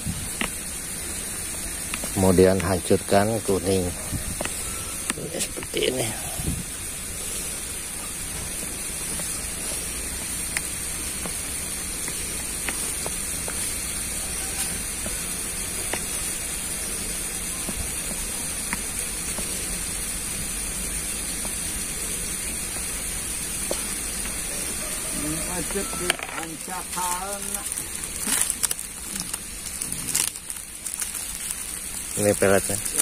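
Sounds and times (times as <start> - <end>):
high-pitched outdoor hiss: 0.0 - 33.0.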